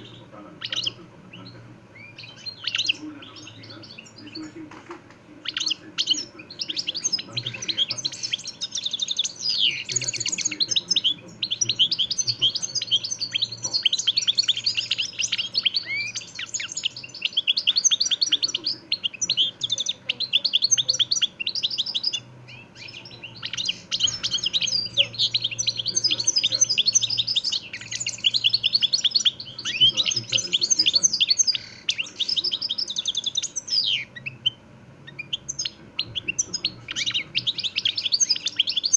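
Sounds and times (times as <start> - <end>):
finch twittering song: 0.0 - 38.9.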